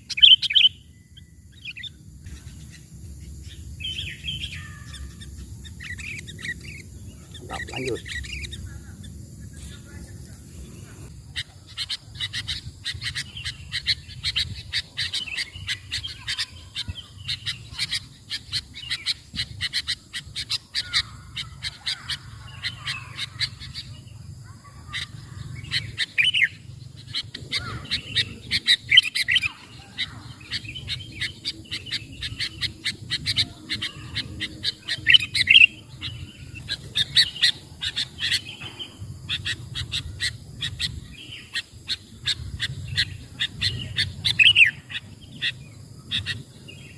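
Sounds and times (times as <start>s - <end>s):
birds chirping and chattering: 0.0s - 46.9s.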